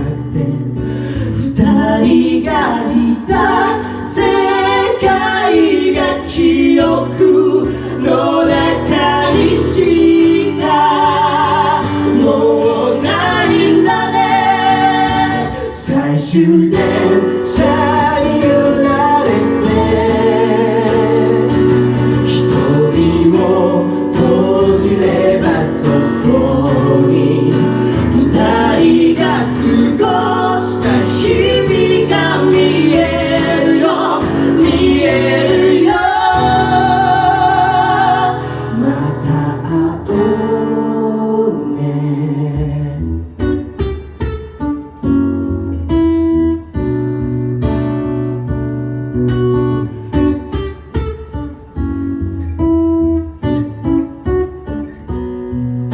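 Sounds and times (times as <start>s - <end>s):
bass: 0.0s - 50.5s, 51.5s - 55.9s
guitar: 0.0s - 55.9s.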